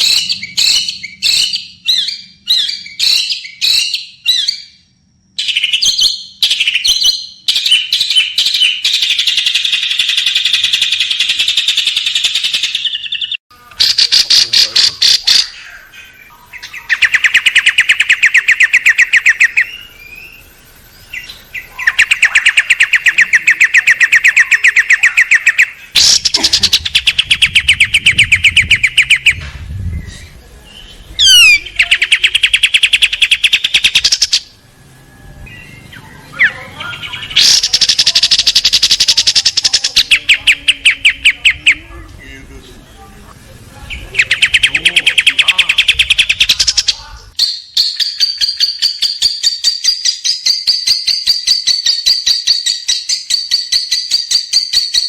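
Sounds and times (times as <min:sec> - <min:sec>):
songbird harsh trills: 0:00.0 - 0:29.4, 0:30.0 - 0:34.6, 0:35.4 - 0:41.9, 0:43.9 - 0:55.0.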